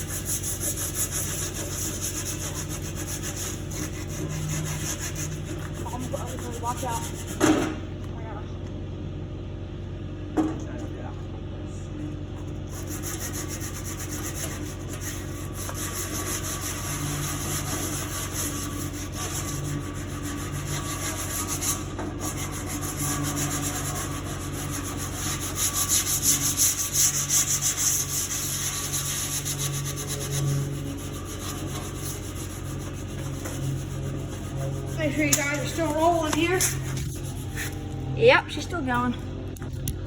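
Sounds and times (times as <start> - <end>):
power sander on sheet metal: 0.0 - 7.6, 12.8 - 37.9.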